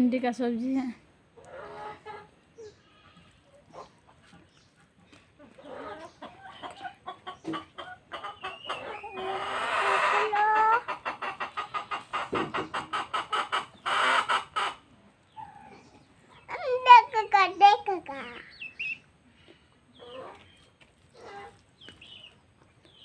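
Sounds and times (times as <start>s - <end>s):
chickens clucking: 1.2s - 23.0s
chickens squawking: 1.3s - 23.0s.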